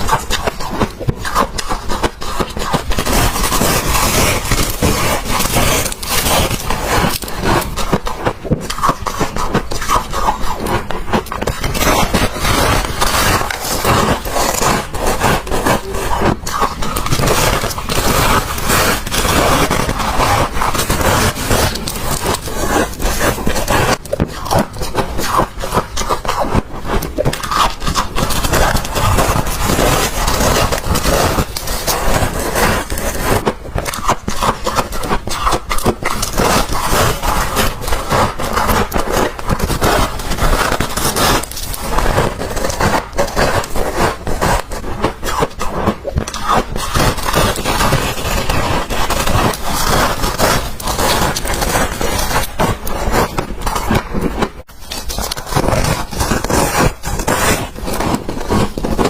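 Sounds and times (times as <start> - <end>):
freezer frost crunching: 0.0 - 59.0.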